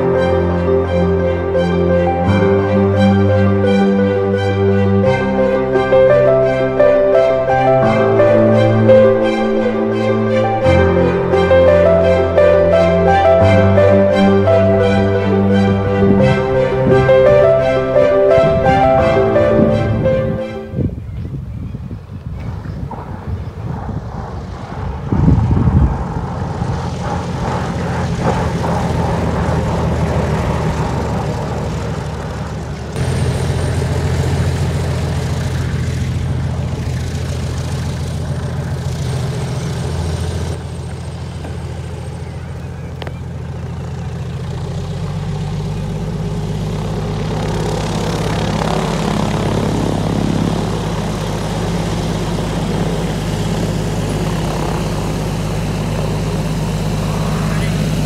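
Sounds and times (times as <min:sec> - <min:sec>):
loud low rumble: 0:00.0 - 0:58.0
propeller plane engine droning: 0:00.0 - 0:58.0.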